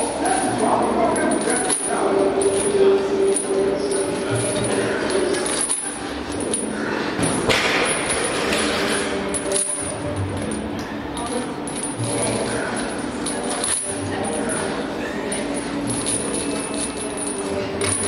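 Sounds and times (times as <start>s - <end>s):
chains rattling on floor: 0.0s - 18.0s.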